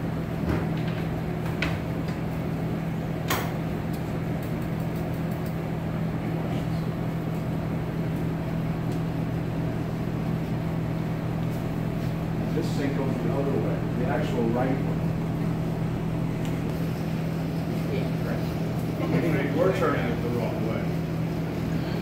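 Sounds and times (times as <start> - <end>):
low machine hum of fans: 0.0 - 22.0.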